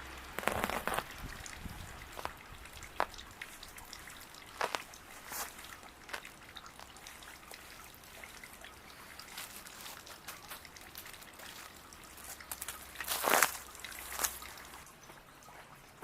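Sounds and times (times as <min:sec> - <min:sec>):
faint water trickling: 0:00.0 - 0:16.0.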